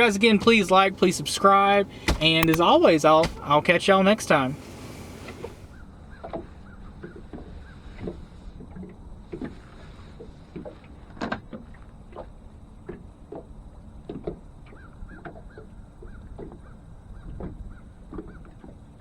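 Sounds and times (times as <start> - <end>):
waves slapping a boat hull: 0.0 - 19.0.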